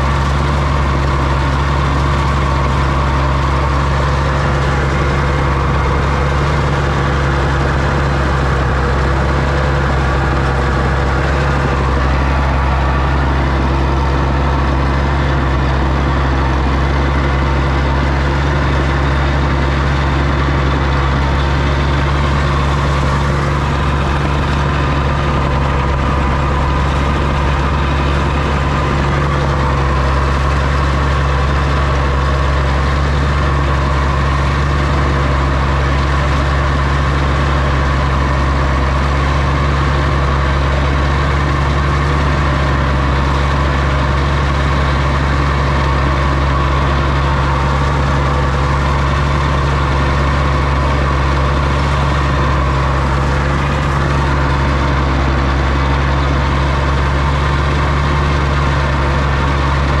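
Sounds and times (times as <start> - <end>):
tractor engine droning steadily: 0.0 - 60.0.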